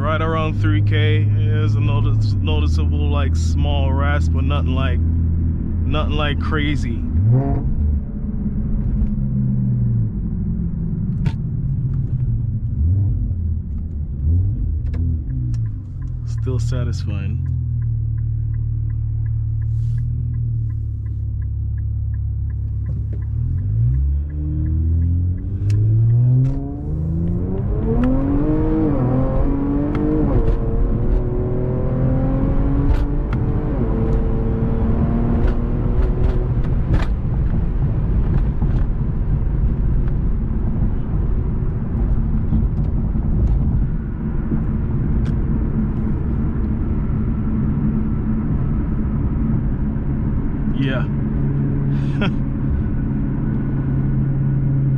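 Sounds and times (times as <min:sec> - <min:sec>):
engine revving under acceleration: 0:07.0 - 0:54.9.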